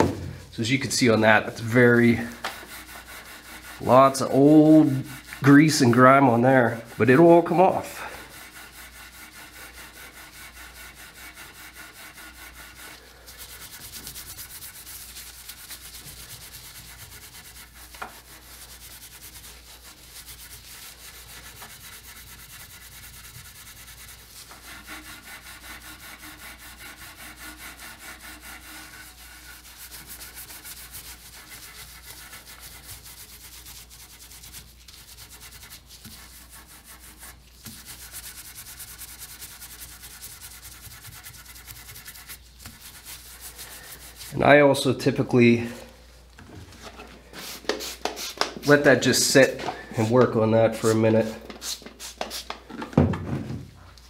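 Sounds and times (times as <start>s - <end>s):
pad rubbing on wood: 0.0s - 0.4s, 1.0s - 44.6s, 46.4s - 52.7s.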